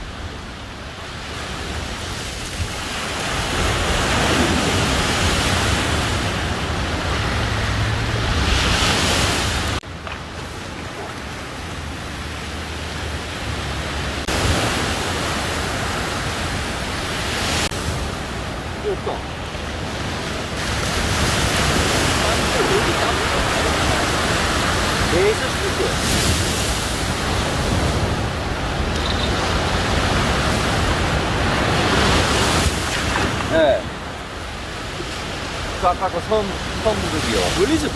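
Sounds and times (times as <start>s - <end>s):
wind noise on microphone: 0.0s - 35.8s
sea surf: 0.0s - 37.9s.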